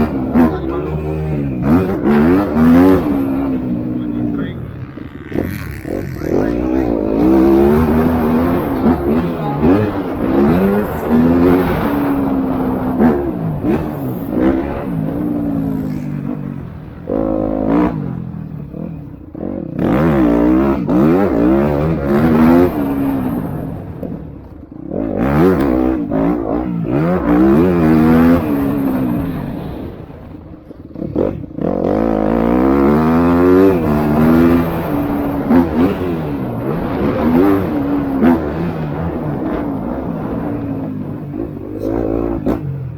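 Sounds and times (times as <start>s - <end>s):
motocross bikes racing: 0.0s - 42.9s.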